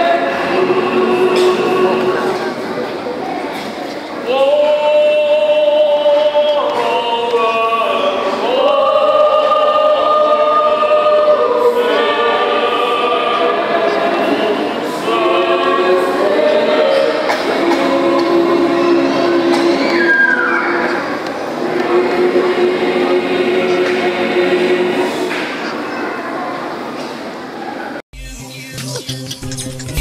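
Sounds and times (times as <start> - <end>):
mixed choir singing: 0.0 - 25.9.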